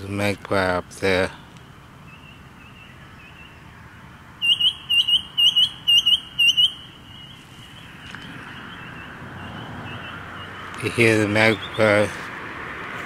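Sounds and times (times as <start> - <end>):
birds chirping: 0.0 - 12.6
bird sharp high calls: 1.2 - 12.3.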